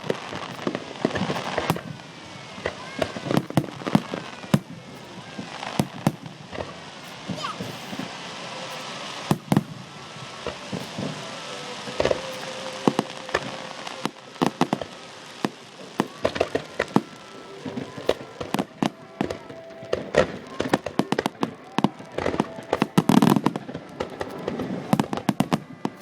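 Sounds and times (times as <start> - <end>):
crackling hiss: 0.0 - 26.0
fireworks bangs: 0.0 - 26.0.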